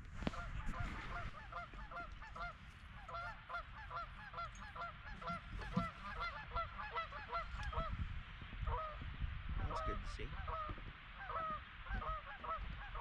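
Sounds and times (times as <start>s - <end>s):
geese honking: 0.1s - 8.0s, 8.6s - 9.0s, 9.6s - 13.0s.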